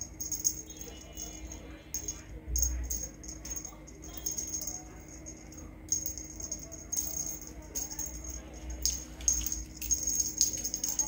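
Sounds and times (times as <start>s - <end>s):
small bell jingling: 0.0s - 11.0s.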